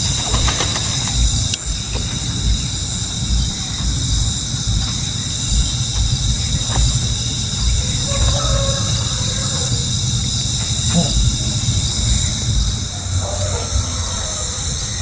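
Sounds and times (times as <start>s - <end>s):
continuous low rumble: 0.0s - 15.0s
insect chorus: 0.0s - 15.0s.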